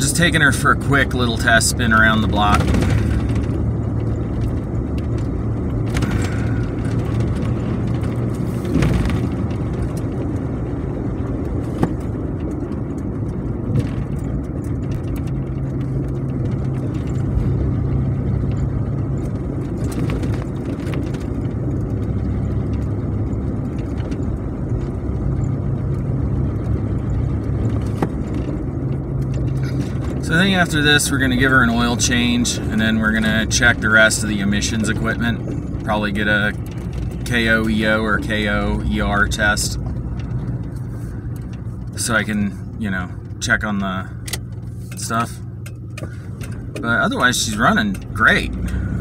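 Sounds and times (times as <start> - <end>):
car engine running: 0.0 - 49.0
road noise inside car: 0.0 - 49.0.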